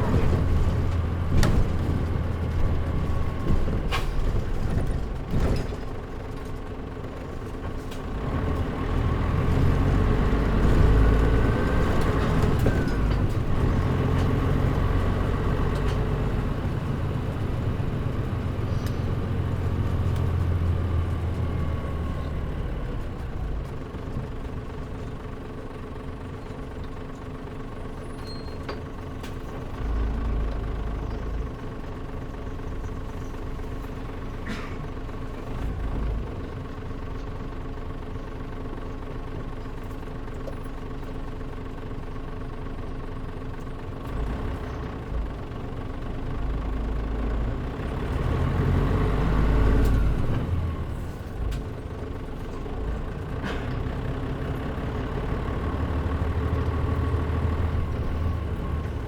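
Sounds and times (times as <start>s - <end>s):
bus diesel engine running: 0.0s - 59.0s.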